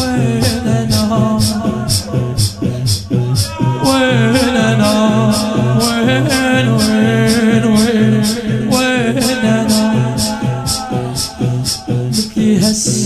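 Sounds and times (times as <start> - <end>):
man singing a mourning chant: 0.0 - 13.0
pulsing low bass: 0.0 - 13.0
steady beat: 0.0 - 13.0.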